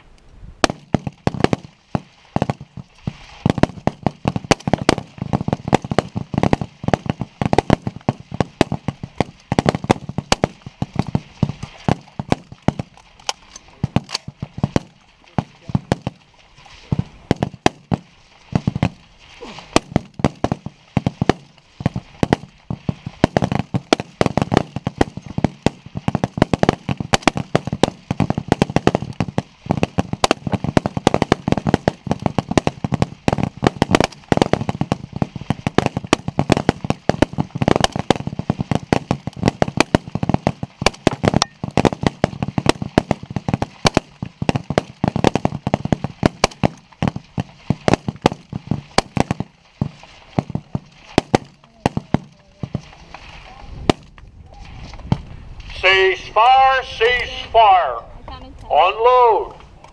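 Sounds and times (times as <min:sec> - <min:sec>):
rapid rifle shots: 0:00.6 - 0:19.0, 0:19.7 - 0:53.0.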